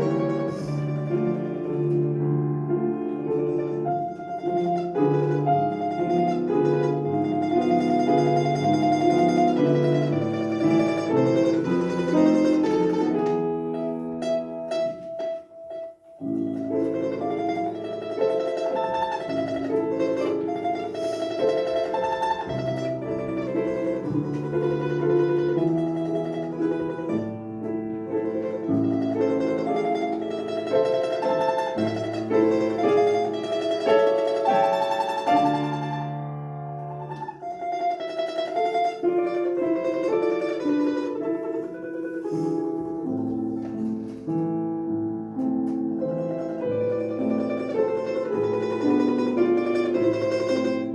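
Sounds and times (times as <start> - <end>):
plucked string instrument melody: 0.0 - 50.9.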